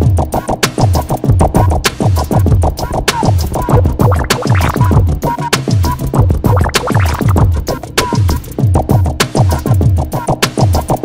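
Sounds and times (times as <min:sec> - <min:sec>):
electronic music with deep drums: 0:00.0 - 0:11.0.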